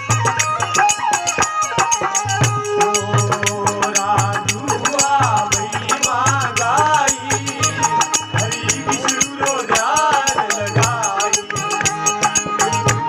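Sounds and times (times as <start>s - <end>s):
pulsing drum beat: 0.0s - 13.0s
rattling percussion: 0.0s - 13.0s
man singing: 2.4s - 13.0s.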